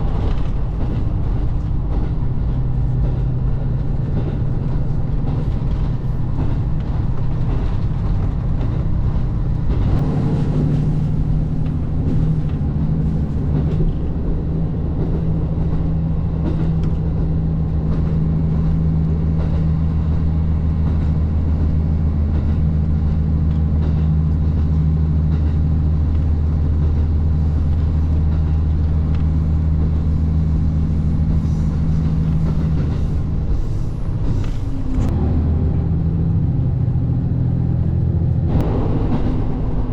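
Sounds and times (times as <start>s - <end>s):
diesel railcar engine running: 0.0s - 39.9s.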